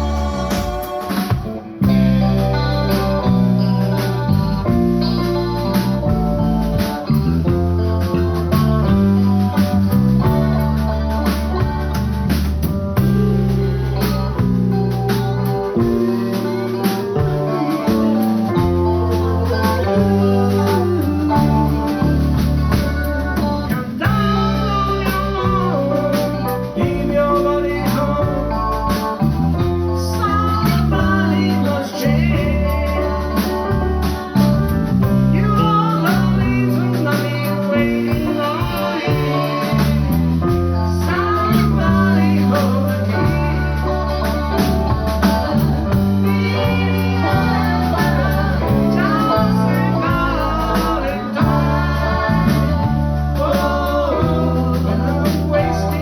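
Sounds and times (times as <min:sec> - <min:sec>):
live band playing blues: 0:00.0 - 0:56.0.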